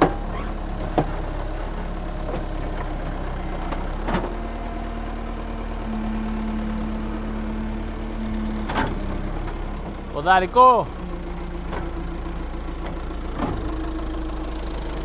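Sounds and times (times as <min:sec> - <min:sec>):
construction machine engine running: 0:00.0 - 0:15.0
steady hum: 0:00.0 - 0:15.0.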